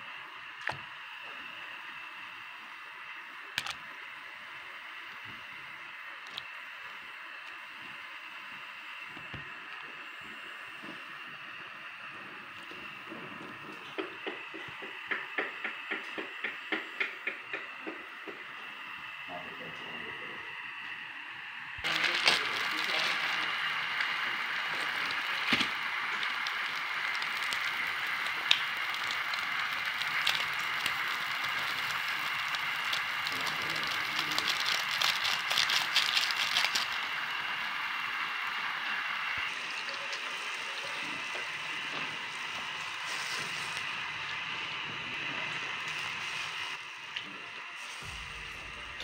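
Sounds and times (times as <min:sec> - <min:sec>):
water hissing in a wok: 0:00.0 - 0:17.0, 0:18.4 - 0:49.0.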